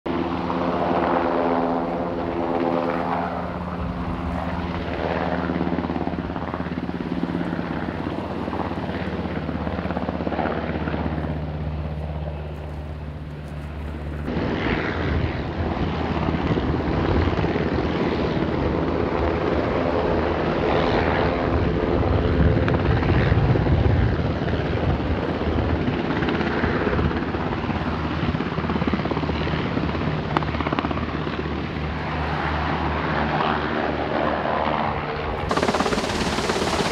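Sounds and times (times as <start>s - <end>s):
helicopter engine hum: 0.1s - 36.9s
helicopter rotors beating: 0.1s - 36.9s.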